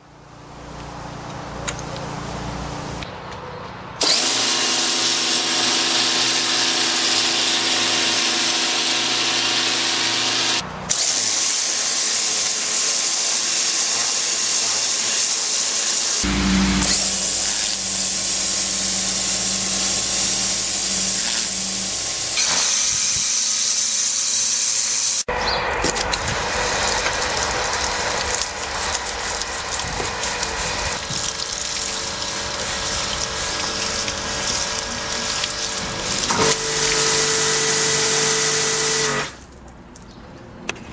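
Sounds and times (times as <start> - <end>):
water spraying through brush: 4.0 - 25.2, 25.8 - 39.3
pressure washer jet hissing: 4.0 - 25.3, 26.1 - 39.3.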